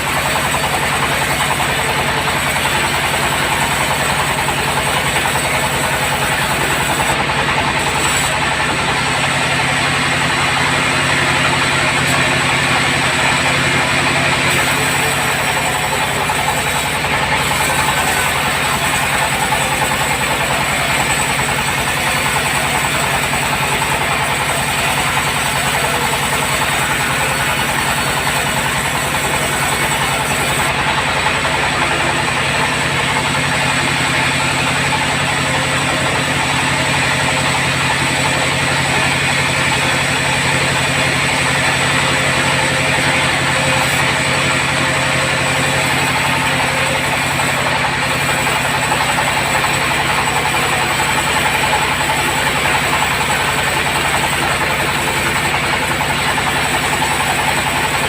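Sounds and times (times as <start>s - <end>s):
bandsaw running: 0.0s - 58.0s.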